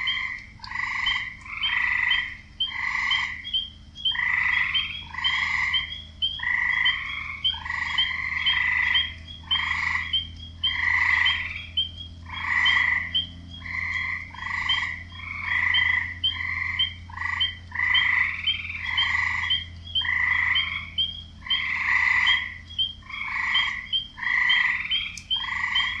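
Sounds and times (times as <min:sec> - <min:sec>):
faint low hum: 0:00.0 - 0:26.0
frogs croaking: 0:00.0 - 0:26.0.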